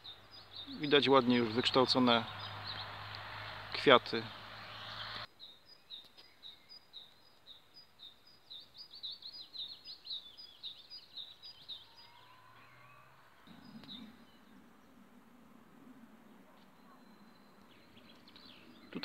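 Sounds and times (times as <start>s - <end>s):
small songbird singing: 0.0s - 15.0s, 16.6s - 19.0s.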